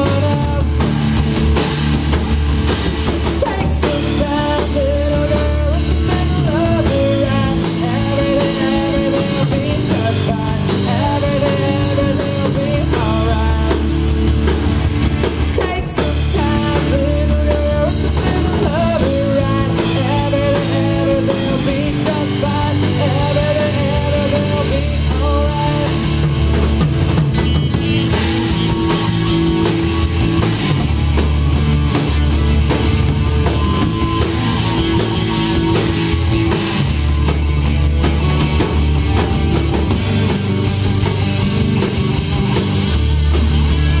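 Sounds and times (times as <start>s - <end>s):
drum kit beating: 0.0s - 44.0s
live rock band playing: 0.0s - 44.0s.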